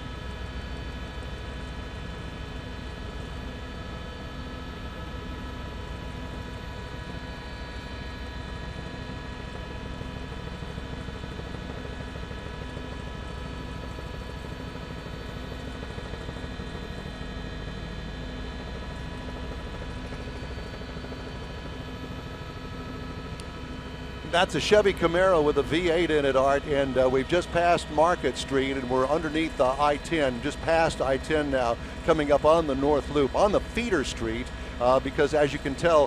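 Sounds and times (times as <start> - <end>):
helicopter drone from inside: 0.0 - 36.0.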